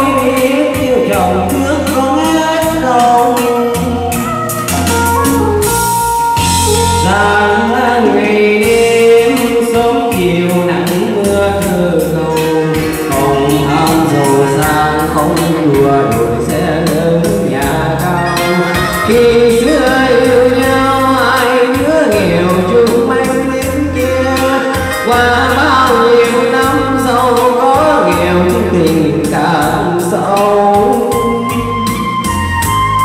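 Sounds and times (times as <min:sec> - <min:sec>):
man singing into microphone: 0:00.0 - 0:32.4
backing-track music with beat: 0:00.0 - 0:33.0.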